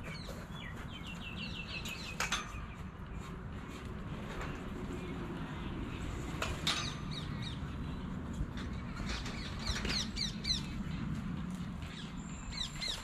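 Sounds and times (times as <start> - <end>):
small birds chirping: 0.0 - 3.4, 4.9 - 13.0.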